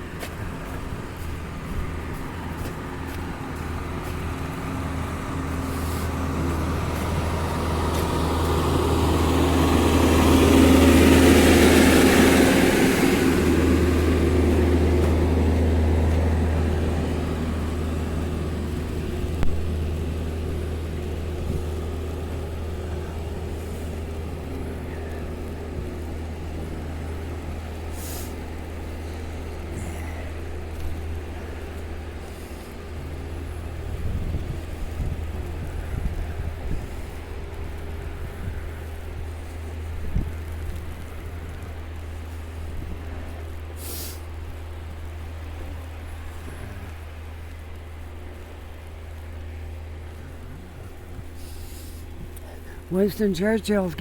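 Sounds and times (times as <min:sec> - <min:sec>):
snowplow engine passing: 0:00.0 - 0:54.0.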